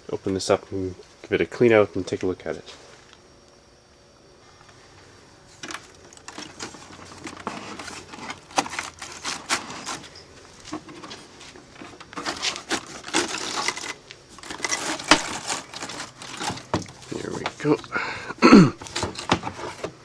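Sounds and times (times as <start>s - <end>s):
air conditioner casing rattling: 0.0s - 3.2s, 4.5s - 20.0s.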